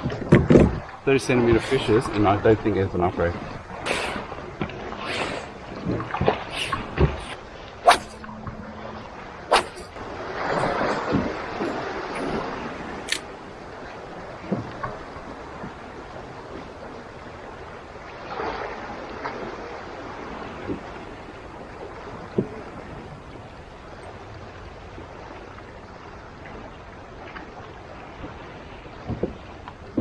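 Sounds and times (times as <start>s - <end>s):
light wind: 0.0s - 30.0s
water lapping against a hull: 0.0s - 30.0s.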